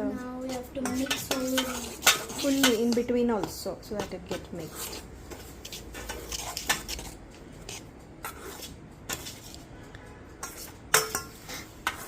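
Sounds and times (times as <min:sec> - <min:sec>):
spoon stirring flour in bowl: 0:00.5 - 0:09.7, 0:10.4 - 0:12.0.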